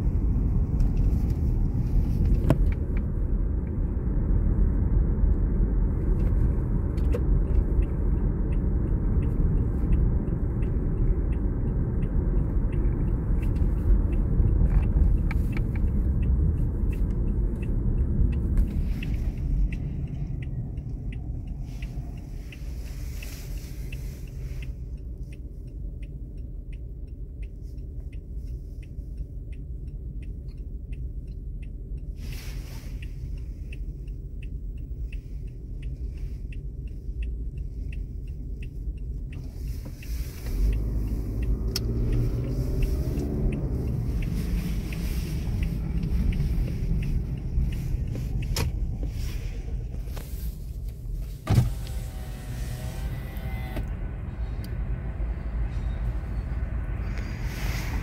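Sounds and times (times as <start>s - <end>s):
car engine and road rumble: 0.0s - 58.0s
light regular ticking: 0.0s - 58.0s.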